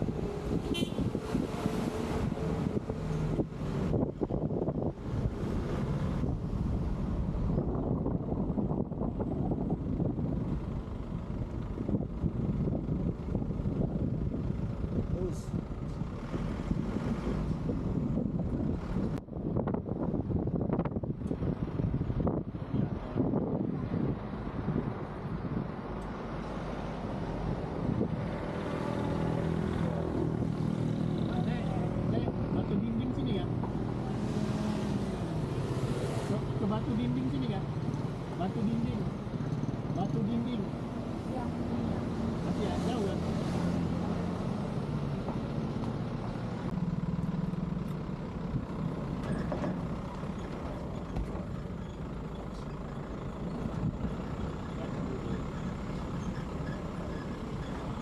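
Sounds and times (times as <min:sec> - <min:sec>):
car engine and tyre noise: 0:00.0 - 0:58.0
steady engine hum: 0:00.0 - 0:58.0.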